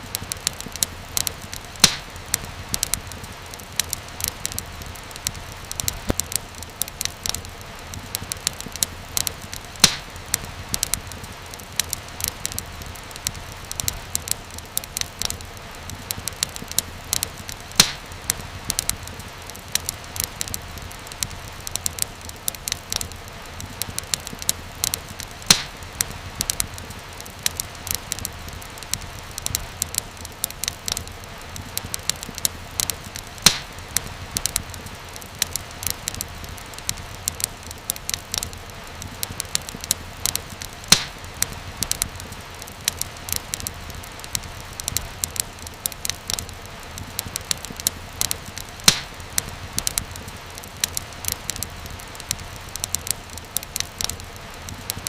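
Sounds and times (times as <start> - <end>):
fire snaps and pops: 0.0 - 55.0
wood fire crackling: 0.0 - 55.0.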